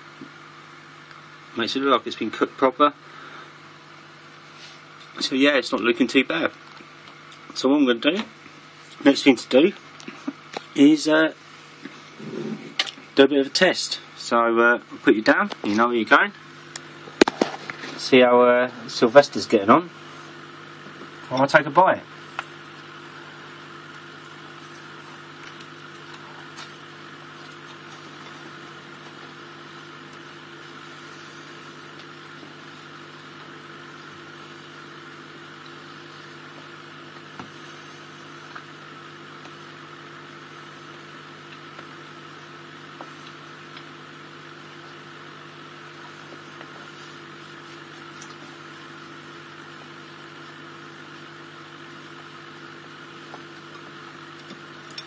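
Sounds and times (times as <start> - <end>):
aquarium bubbler humming: 0.0 - 55.0.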